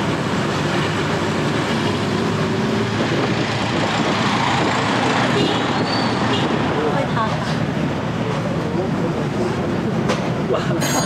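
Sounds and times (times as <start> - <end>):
road and wind noise: 0.0 - 11.0
vehicle engine: 0.0 - 11.0.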